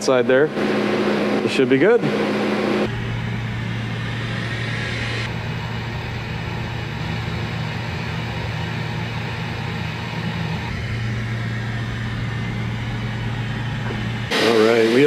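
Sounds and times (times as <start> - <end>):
machining center humming: 0.0 - 15.0.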